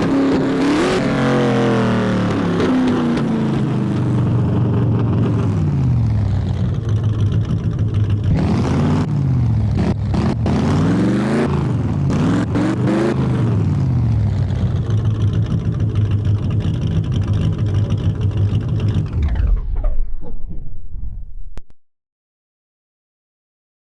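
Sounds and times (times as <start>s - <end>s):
engine idling and revving: 0.0s - 20.6s.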